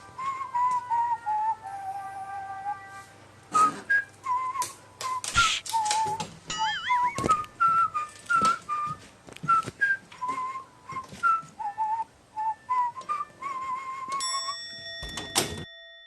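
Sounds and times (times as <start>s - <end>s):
whistled tune: 0.1s - 14.6s.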